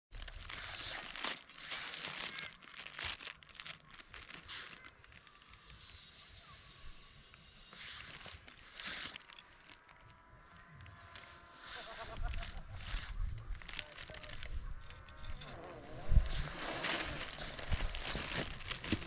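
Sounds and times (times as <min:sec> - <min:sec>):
crinkling rustling: 0:00.1 - 0:06.1, 0:07.2 - 0:19.0.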